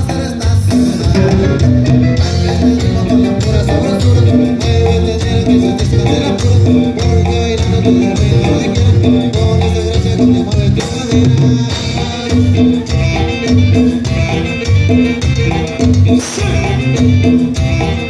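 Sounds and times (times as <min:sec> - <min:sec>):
live band playing dance music: 0:00.0 - 0:18.0.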